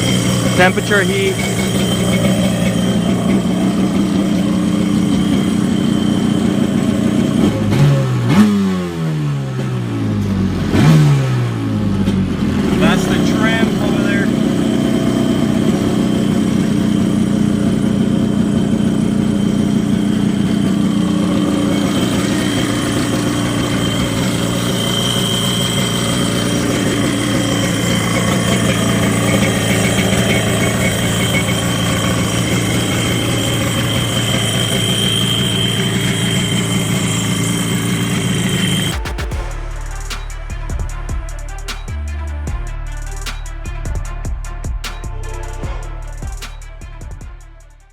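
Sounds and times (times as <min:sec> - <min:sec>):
jet ski engine idling: 0:00.0 - 0:46.5.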